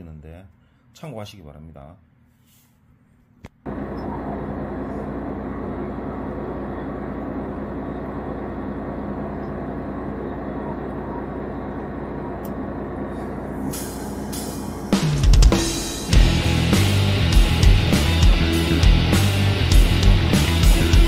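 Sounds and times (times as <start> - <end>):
boat engine drone: 3.7 - 21.0.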